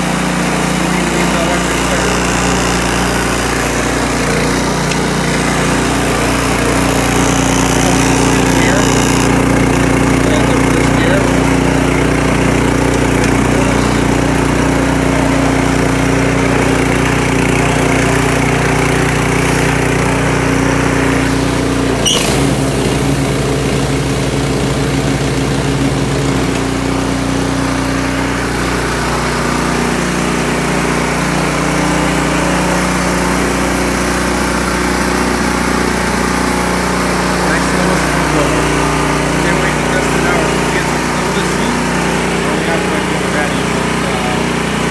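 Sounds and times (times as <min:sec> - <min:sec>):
snowblower engine running: 0:00.0 - 0:44.9.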